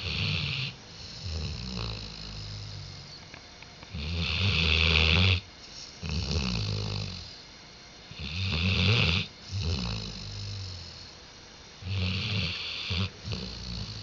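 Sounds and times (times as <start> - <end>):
dog snoring: 0.0 - 3.2, 3.9 - 7.5, 8.1 - 11.2, 11.8 - 14.0.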